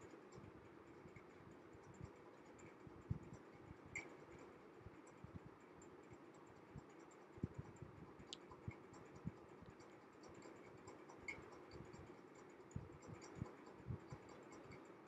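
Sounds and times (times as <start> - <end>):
soft ticks: 1.1 - 15.0.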